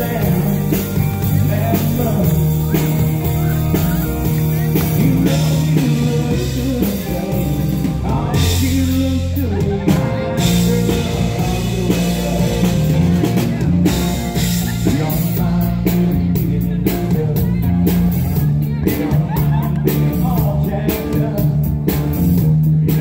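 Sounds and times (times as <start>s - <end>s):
live country band: 0.0s - 23.0s
male lead vocal: 0.0s - 23.0s.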